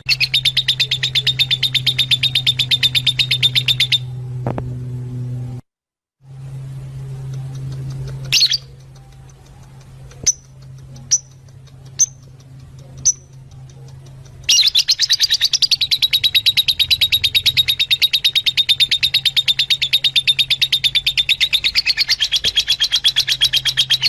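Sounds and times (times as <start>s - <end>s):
lovebirds chirping: 0.0s - 4.2s, 7.3s - 24.0s.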